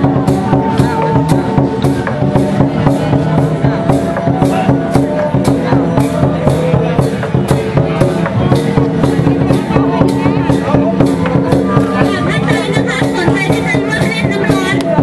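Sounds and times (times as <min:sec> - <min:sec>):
ritual percussion music: 0:00.0 - 0:15.0.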